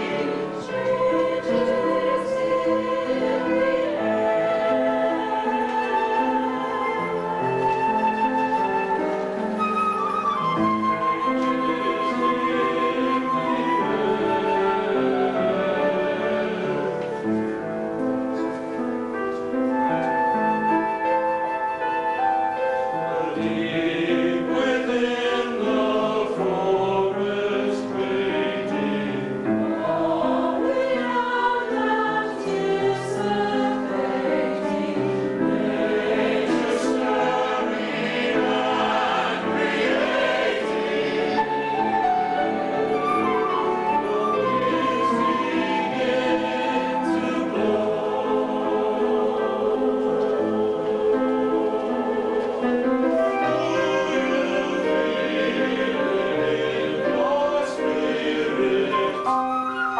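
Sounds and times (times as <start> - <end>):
choir singing: 0.0 - 18.7, 19.6 - 59.9
flute: 0.0 - 59.9
piano: 0.0 - 59.9.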